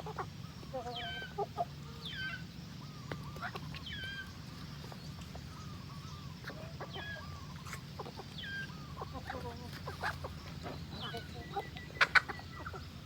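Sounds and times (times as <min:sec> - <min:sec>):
poultry clucking: 0:00.0 - 0:13.0.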